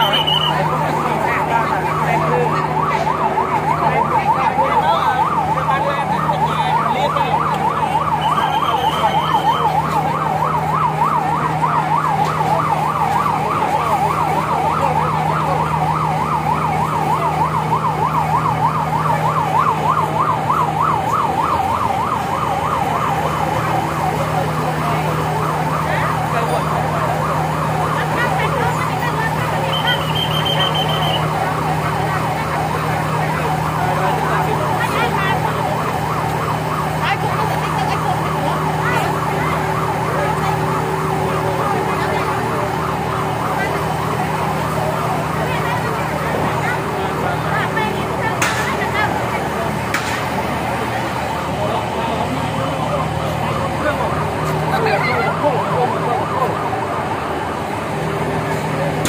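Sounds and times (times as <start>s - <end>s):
fire engine siren warbling: 0.0s - 59.0s.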